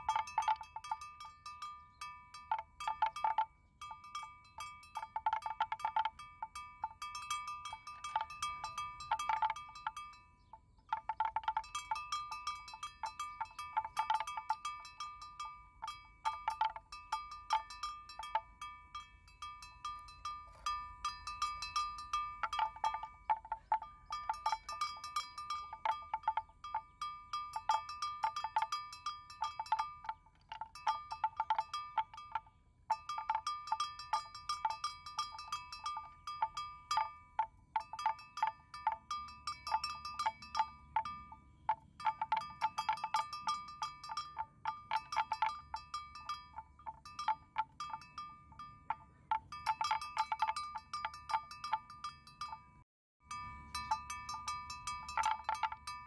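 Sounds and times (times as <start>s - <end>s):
metal bell clanking: 0.0s - 56.0s.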